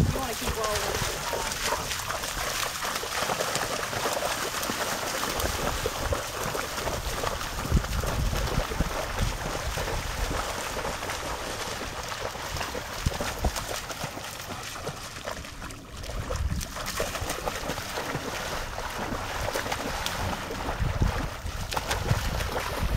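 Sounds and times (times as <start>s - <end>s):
animals splashing through water: 0.0s - 22.9s.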